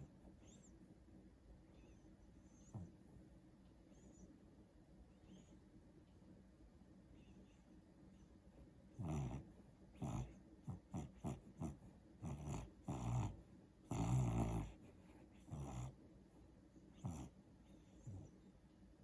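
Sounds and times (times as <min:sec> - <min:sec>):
sleeping dog making muffled sounds: 0:00.0 - 0:04.4, 0:07.0 - 0:18.9.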